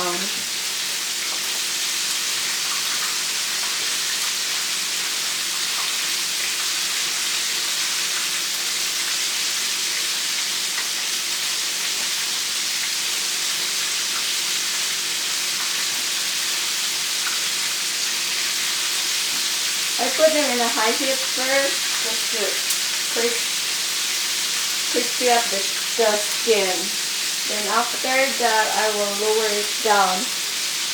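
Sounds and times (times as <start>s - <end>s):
chicken deep-frying sizzle: 0.0s - 30.9s.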